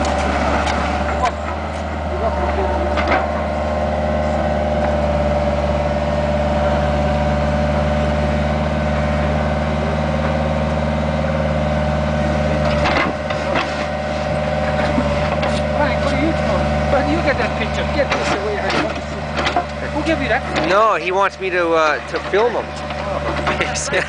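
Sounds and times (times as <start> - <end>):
diesel engine drone: 0.0 - 24.0
steady whine: 0.0 - 24.0.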